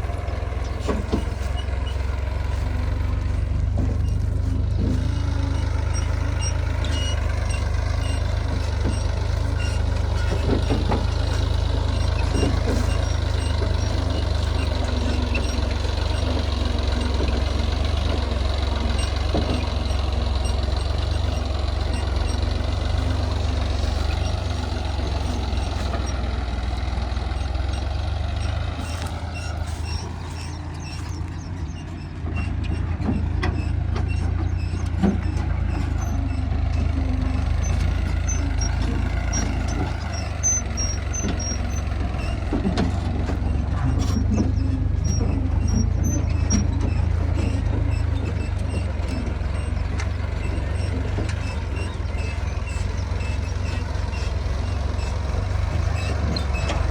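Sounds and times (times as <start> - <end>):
heavy diesel machinery running: 0.0 - 56.9.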